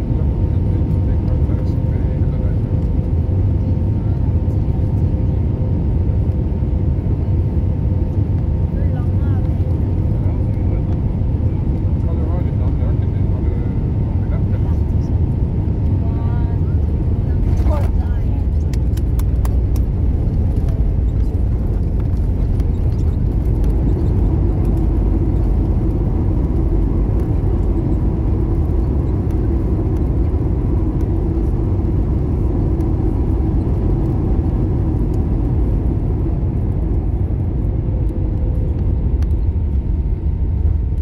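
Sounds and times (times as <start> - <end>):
airliner engine and wheel rumble: 0.0 - 41.0.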